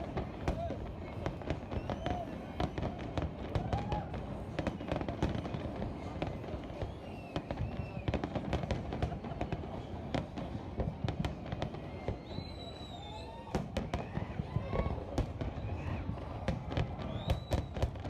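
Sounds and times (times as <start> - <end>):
fireworks booming: 0.0 - 18.0
fireworks crackling bangs: 0.0 - 18.0.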